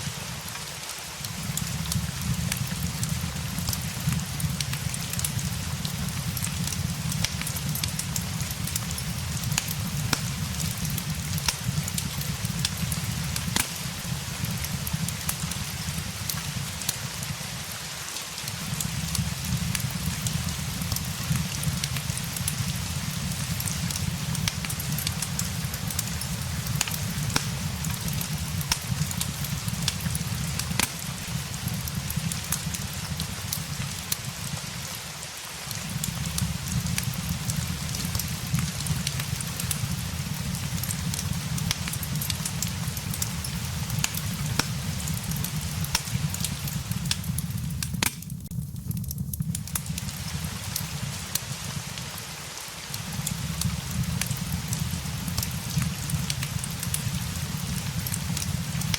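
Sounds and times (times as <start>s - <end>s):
fireplace crackling: 0.0s - 58.9s
steady rain hiss: 0.0s - 58.9s.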